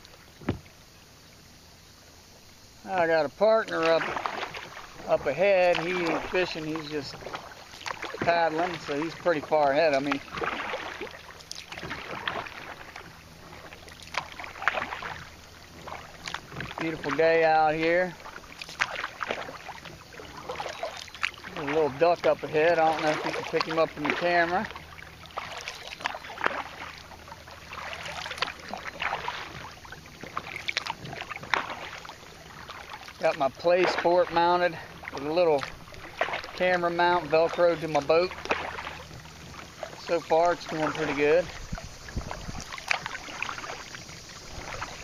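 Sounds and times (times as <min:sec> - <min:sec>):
paddle splashing in water: 0:00.0 - 0:45.0
water lapping at hull: 0:00.0 - 0:45.0.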